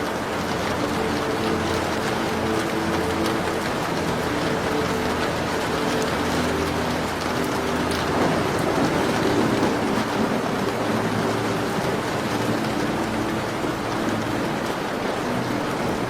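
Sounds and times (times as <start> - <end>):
fireplace crackles: 0.0 - 16.0
steady rain: 0.0 - 16.0.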